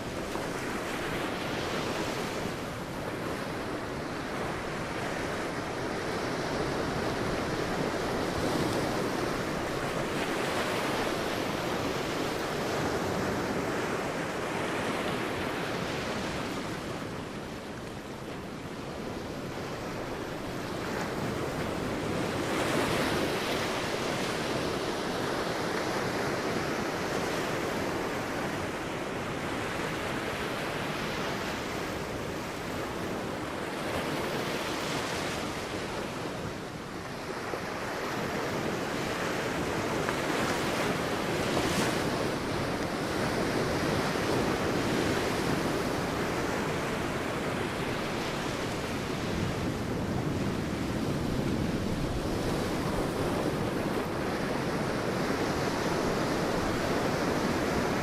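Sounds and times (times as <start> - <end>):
waves breaking on beach: 0.0 - 58.0
wind noise on microphone: 0.0 - 58.0.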